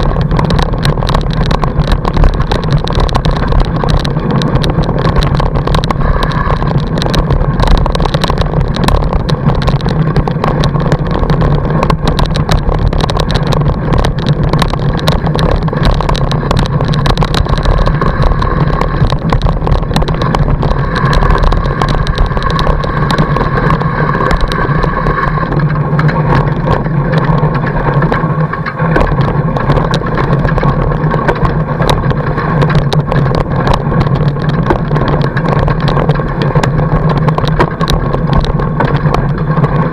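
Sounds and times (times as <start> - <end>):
bike tyre rolling over snow: 0.0 - 39.9.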